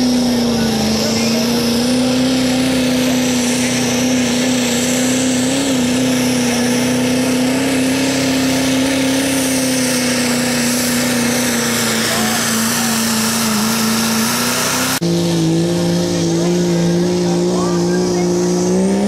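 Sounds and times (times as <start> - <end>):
diesel truck engine droning: 0.0 - 19.0.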